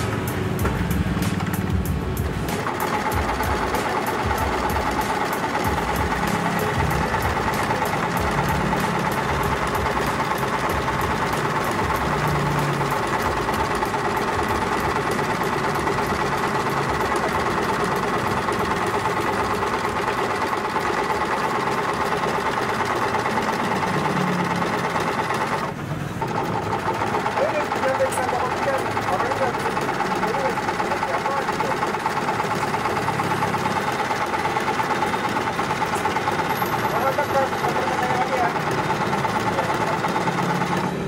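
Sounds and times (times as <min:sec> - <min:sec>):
sewing machine motor whine: 0:01.4 - 0:41.0
sewing machine needle clatter: 0:02.6 - 0:41.0.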